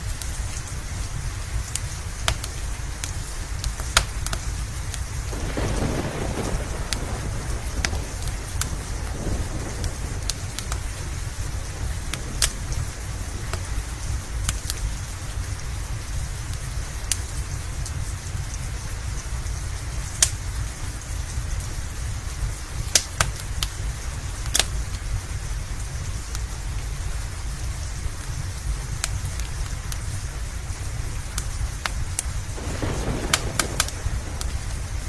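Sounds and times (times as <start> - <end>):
deep constant rumble: 0.0 - 35.0
steady rain: 0.0 - 35.0
wood fire crackling and popping: 0.0 - 35.0.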